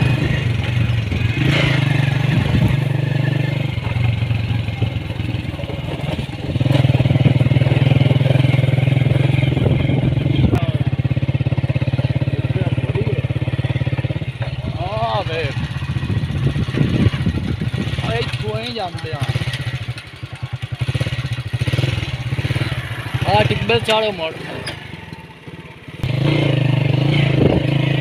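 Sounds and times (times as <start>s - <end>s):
small motorcycle engine running: 0.0s - 28.0s.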